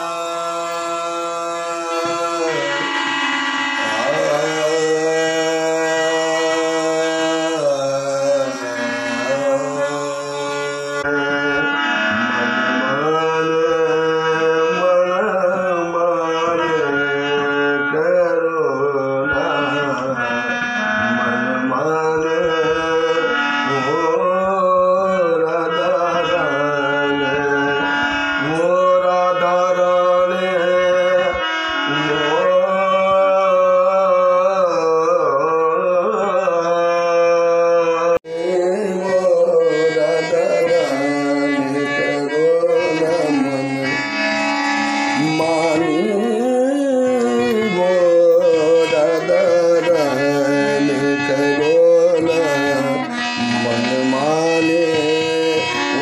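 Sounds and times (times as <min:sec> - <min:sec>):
man singing folk melody: 0:00.0 - 0:03.0, 0:03.8 - 0:20.3, 0:21.1 - 0:44.3, 0:45.2 - 0:56.0
harmonium playing: 0:00.0 - 0:56.0.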